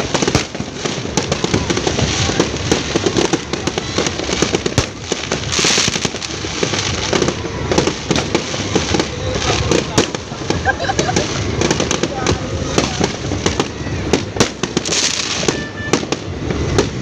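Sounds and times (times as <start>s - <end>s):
firework hiss: 0.0s - 17.0s
fireworks bangs and pops: 0.0s - 17.0s.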